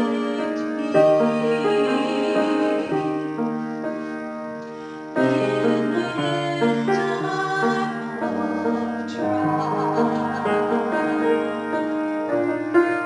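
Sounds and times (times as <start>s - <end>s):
solo piano chords: 0.0s - 13.0s.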